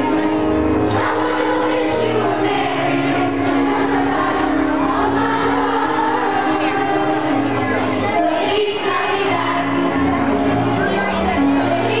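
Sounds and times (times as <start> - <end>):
instrumental accompaniment: 0.0 - 12.0
youth choir singing: 0.0 - 12.0.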